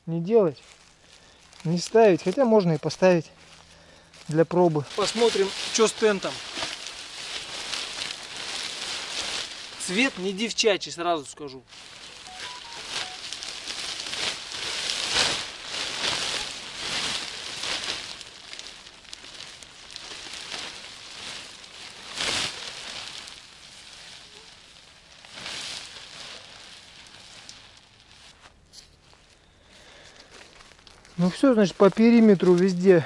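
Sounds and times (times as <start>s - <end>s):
tent fabric rustling: 0.5s - 10.8s, 11.4s - 33.0s.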